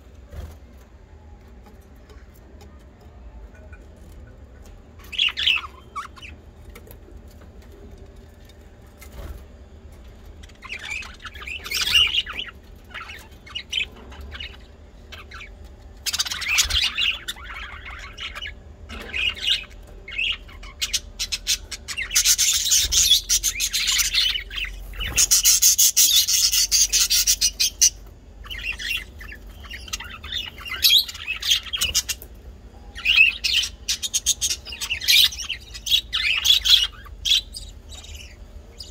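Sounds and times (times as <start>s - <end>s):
faint steady hum: 0.0s - 38.9s
bird chirping: 1.2s - 7.4s, 10.3s - 38.9s.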